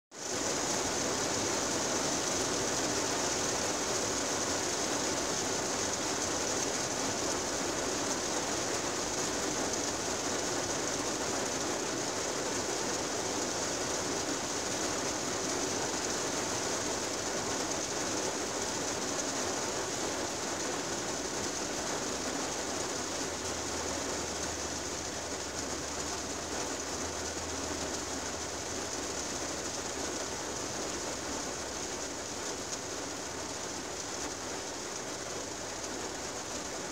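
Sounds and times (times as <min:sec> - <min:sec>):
rain on car windshield: 0:00.2 - 0:36.9.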